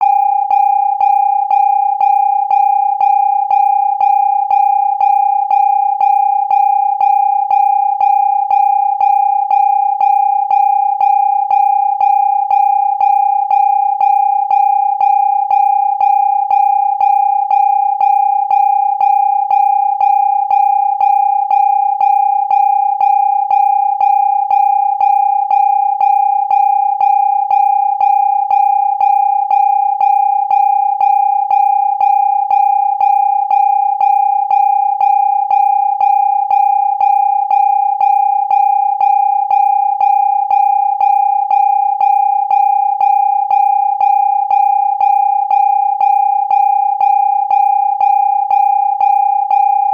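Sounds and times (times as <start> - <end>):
alarm beeping: 0.0 - 49.9.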